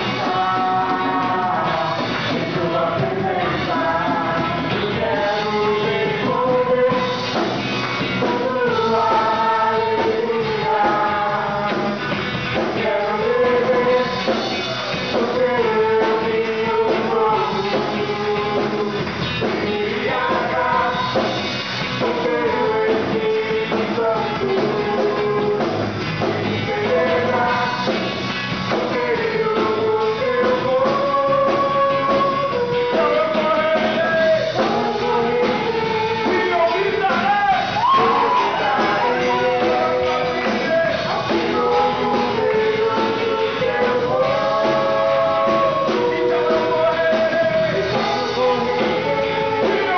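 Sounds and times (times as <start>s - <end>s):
rock music with singing: 0.0s - 49.9s.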